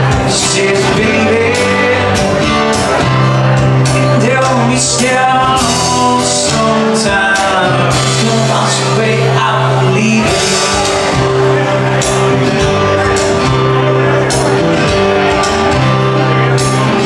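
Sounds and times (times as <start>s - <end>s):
acoustic guitar: 0.0s - 17.0s
bass line: 0.0s - 17.0s
electric guitar: 0.0s - 17.0s
man singing: 0.0s - 17.0s.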